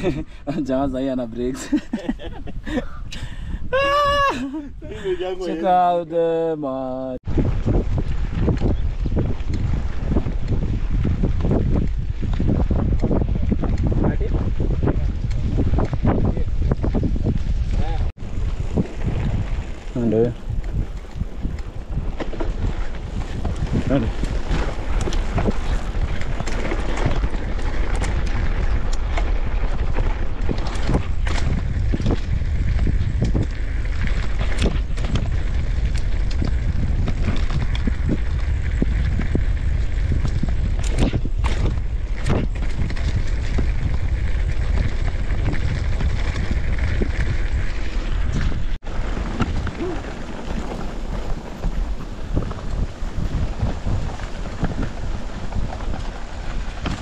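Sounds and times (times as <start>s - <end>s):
wind rumble on microphone: 0.0s - 57.0s.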